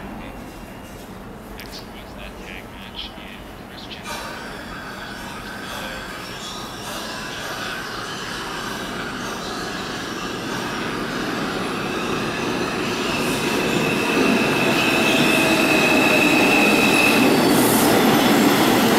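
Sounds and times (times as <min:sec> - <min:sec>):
subway train running: 0:00.0 - 0:18.9.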